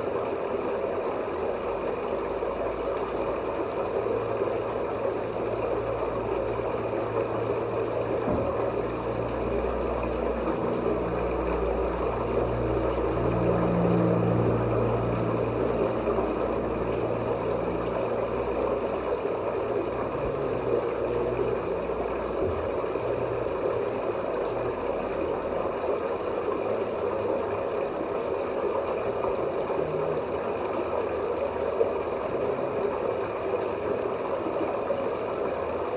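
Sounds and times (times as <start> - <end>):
underwater rush of water: 0.0 - 35.9
low hum: 0.6 - 35.3.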